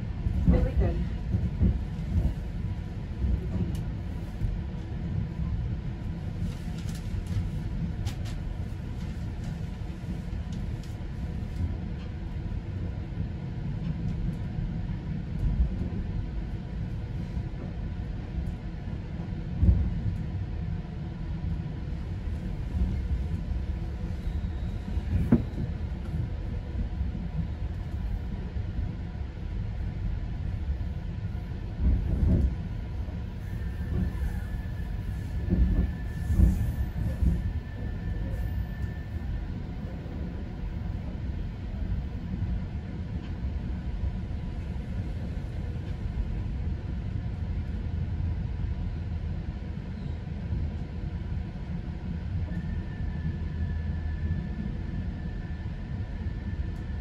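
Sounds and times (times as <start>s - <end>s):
train rumble inside coach: 0.0s - 57.0s.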